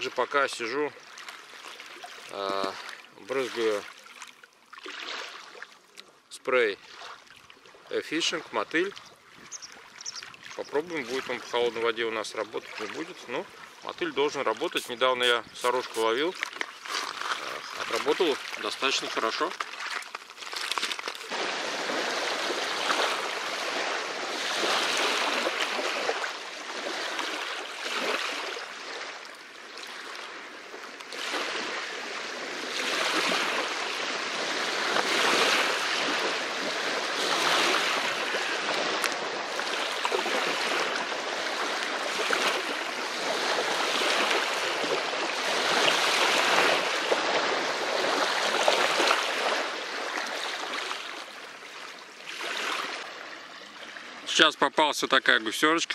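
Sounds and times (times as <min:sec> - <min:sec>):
small waves lapping on shore: 0:00.0 - 0:55.9.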